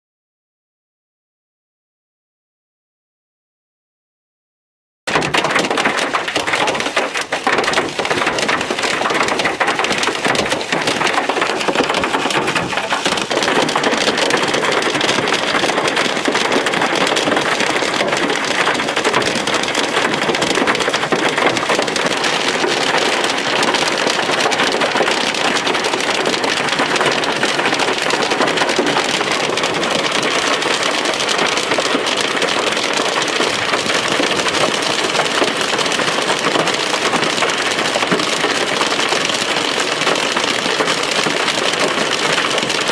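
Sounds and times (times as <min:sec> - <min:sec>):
hail hitting a vehicle: 0:05.1 - 0:42.9.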